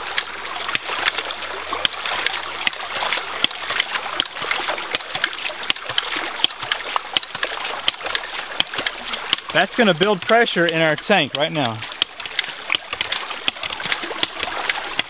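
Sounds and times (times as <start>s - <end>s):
water spurting and splashing: 0.0s - 15.0s.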